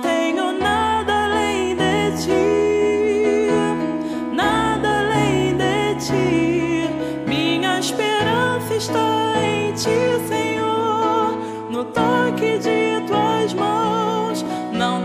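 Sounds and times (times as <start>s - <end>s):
held keyboard chords: 0.0s - 15.0s
slow worship ballad: 0.0s - 15.0s.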